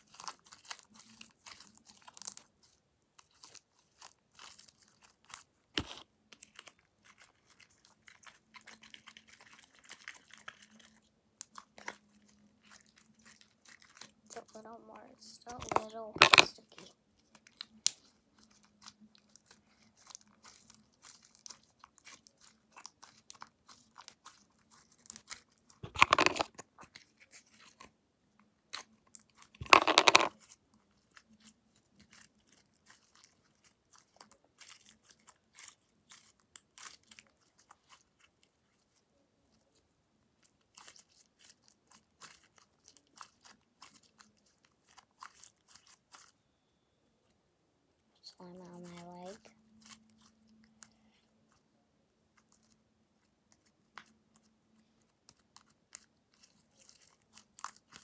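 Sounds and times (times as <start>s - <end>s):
slime squelching: 0.0s - 47.4s, 48.0s - 58.0s.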